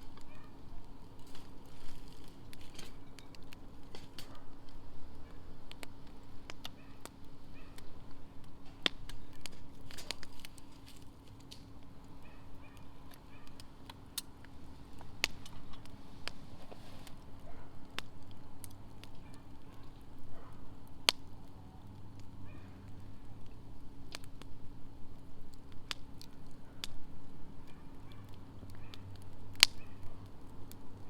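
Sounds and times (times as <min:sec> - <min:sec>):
faint steady hum: 0:00.0 - 0:31.0
wood fire crackling and popping: 0:00.0 - 0:31.0.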